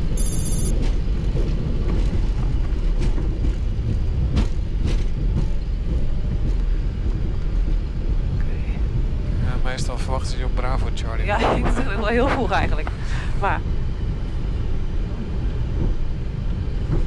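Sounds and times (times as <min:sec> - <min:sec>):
wheels rumbling on runway: 0:00.0 - 0:17.0.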